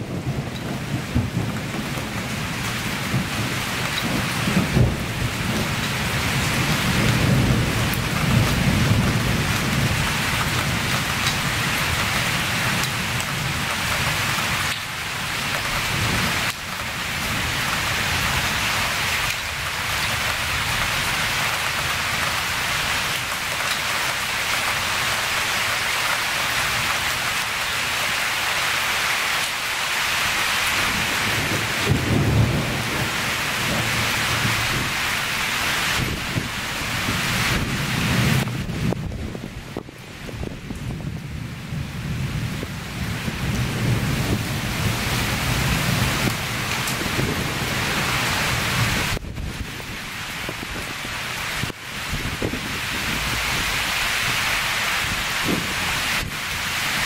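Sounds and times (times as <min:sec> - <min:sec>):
low rumble of thunder: 0:00.0 - 0:23.5, 0:30.6 - 0:54.4, 0:55.1 - 0:56.5
rain falling on forest: 0:00.0 - 0:57.0.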